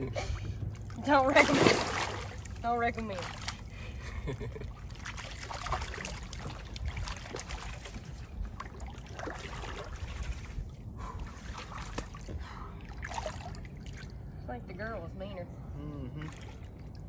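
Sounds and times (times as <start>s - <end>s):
water sloshing and splashing: 0.2s - 14.6s, 16.1s - 17.0s.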